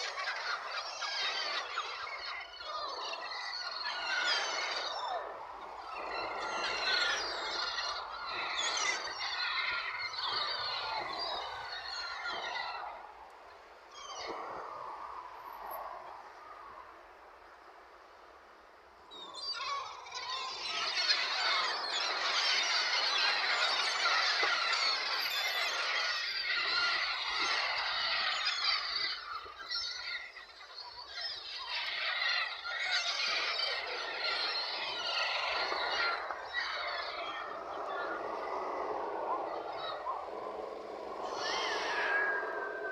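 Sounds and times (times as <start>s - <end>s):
many birds squealing shrilly: 0.0s - 13.2s, 19.1s - 42.9s.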